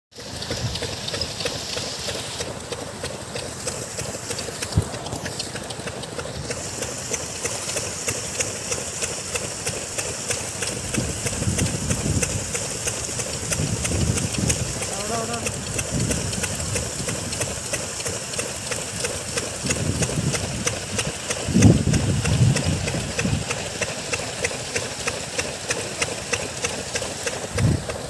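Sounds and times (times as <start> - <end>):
churning water: 0.1 - 28.0
aerator mechanical drone: 0.2 - 28.0
rapid regular ticking: 0.3 - 28.0.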